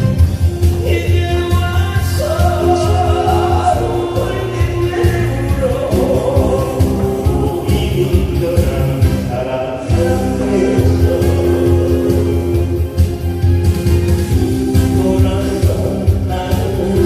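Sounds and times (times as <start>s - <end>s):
music with steady beat: 0.0s - 17.0s
person singing with vibrato: 0.7s - 13.3s, 14.3s - 17.0s.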